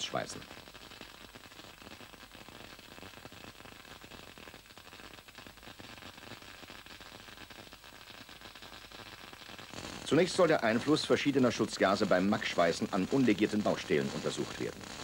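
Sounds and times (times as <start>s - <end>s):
faint steady hiss: 0.0s - 15.0s
light crackle: 0.0s - 15.0s.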